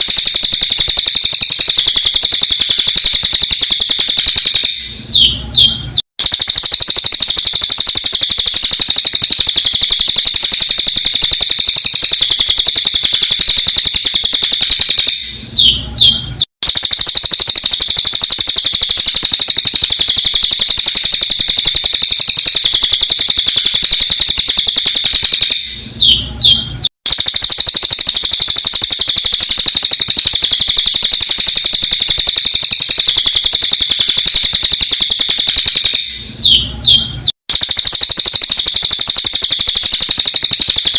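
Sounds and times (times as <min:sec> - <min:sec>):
bird chirps: 0:00.0 - 0:40.9
rapid high bird trill: 0:00.0 - 0:40.9.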